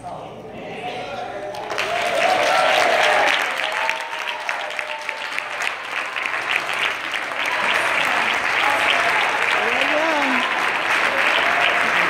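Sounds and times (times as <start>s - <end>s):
audience applauding: 1.5s - 12.0s.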